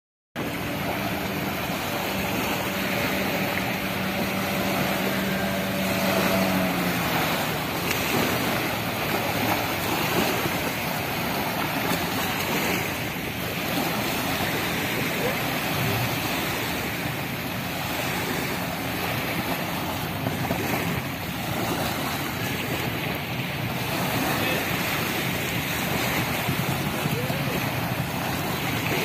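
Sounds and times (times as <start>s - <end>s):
motorboat engine hum: 0.3s - 29.0s
small waves washing onto shore: 0.4s - 29.0s.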